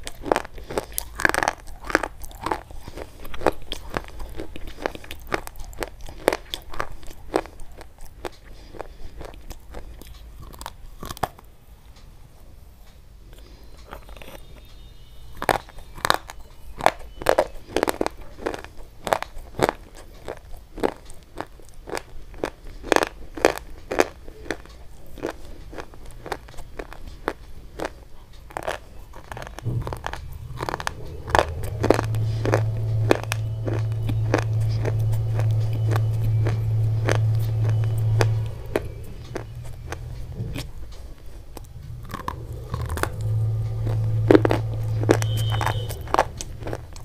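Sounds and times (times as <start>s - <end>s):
biting and crunching chalk: 0.0s - 11.5s, 13.4s - 47.0s
low steady hum: 0.0s - 47.0s.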